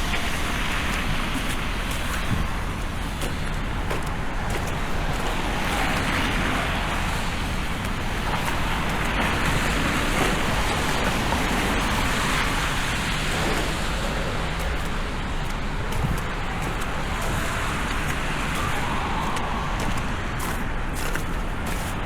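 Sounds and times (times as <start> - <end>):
cars passing on wet road: 0.0 - 22.0.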